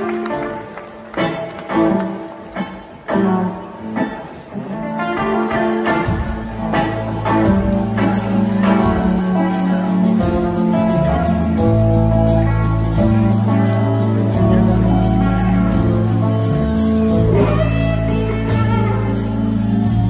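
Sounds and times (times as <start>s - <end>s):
blues-rock band playing: 0.0s - 20.0s
electric guitar notes and chords: 0.0s - 20.0s.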